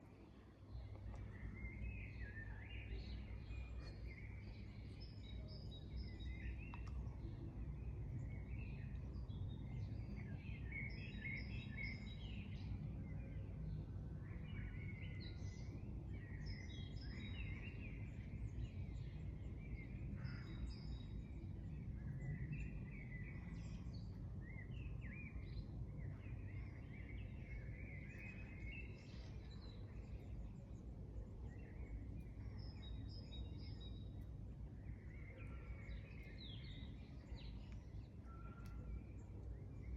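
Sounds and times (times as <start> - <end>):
small birds chirping: 0.2 - 39.9.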